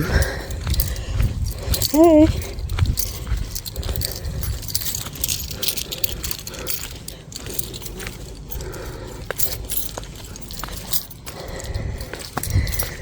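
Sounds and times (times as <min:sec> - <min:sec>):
keys jangling: 0:00.0 - 0:13.0.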